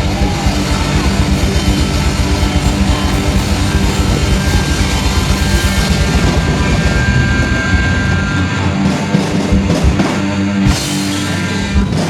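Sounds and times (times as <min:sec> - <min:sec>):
punk band playing loud: 0:00.0 - 0:12.0.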